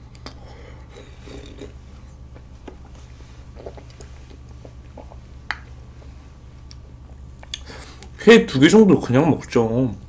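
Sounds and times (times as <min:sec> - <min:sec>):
soft chewing mouth sounds: 0:00.0 - 0:08.2
low steady hum: 0:00.0 - 0:10.0.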